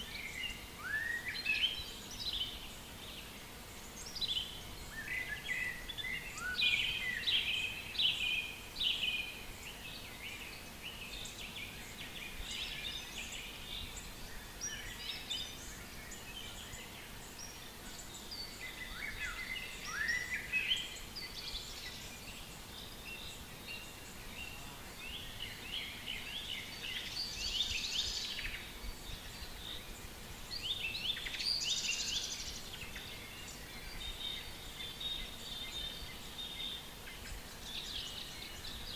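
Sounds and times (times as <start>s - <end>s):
wild birds chirping and trilling: 0.0s - 38.9s.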